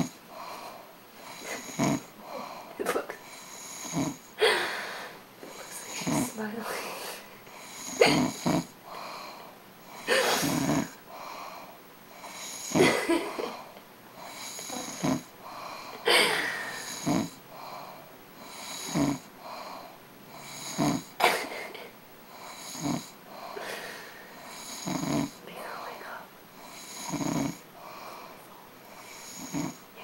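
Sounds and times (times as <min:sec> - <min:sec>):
woman snoring: 0:00.0 - 0:30.0.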